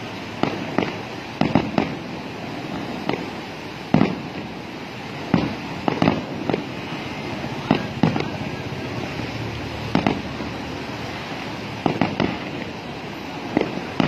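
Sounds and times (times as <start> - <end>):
firework shells bursting: 0.0 - 14.0
steady background noise: 0.0 - 14.0.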